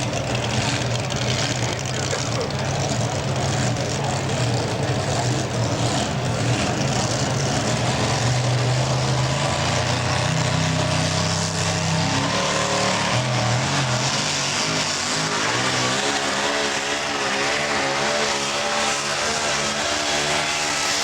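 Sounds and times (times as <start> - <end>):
pulling truck engine roaring: 0.0 - 21.0.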